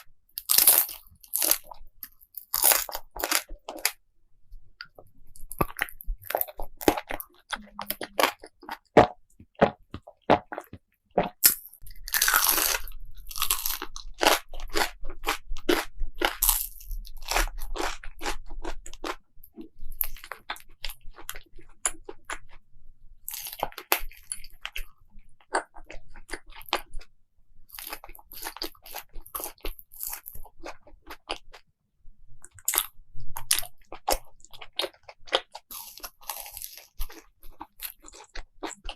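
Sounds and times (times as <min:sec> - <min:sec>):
chewing crunchy food: 0:00.0 - 0:04.0, 0:04.8 - 0:22.6, 0:23.2 - 0:27.1, 0:27.7 - 0:31.7, 0:32.4 - 0:38.9.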